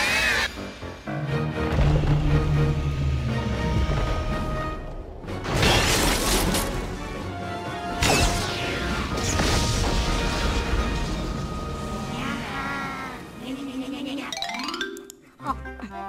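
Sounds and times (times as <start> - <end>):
orchestral music: 0.1 - 16.0.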